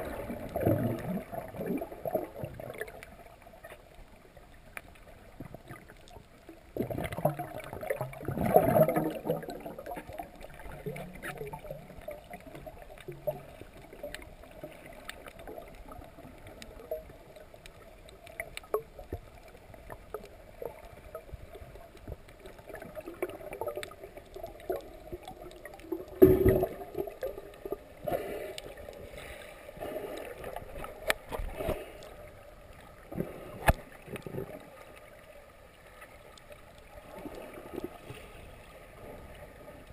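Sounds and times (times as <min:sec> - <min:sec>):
muffled underwater sloshing: 0:00.0 - 0:39.9
water swishes: 0:00.0 - 0:39.9.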